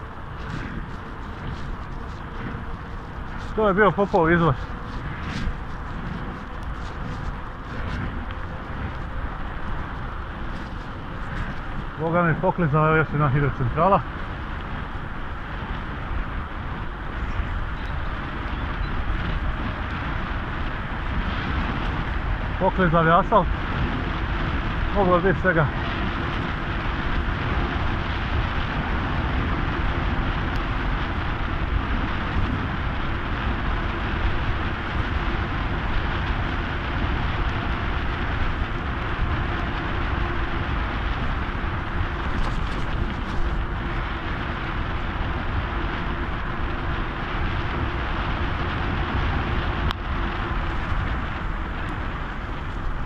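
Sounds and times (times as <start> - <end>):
tyre noise on wet road: 0.0 - 53.0
wind on microphone: 0.0 - 53.0.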